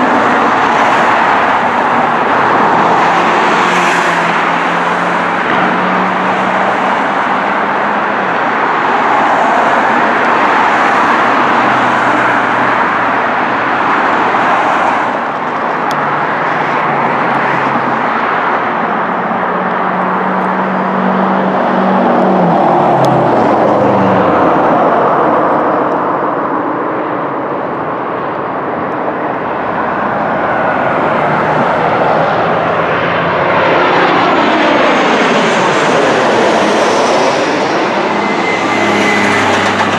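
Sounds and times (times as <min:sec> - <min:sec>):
jet airliner engines: 0:00.0 - 0:39.9.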